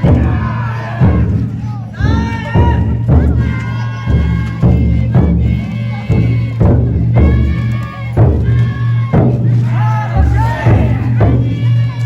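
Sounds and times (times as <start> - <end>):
taiko drum beat: 0.0 - 12.0
voices singing held notes: 0.0 - 12.0.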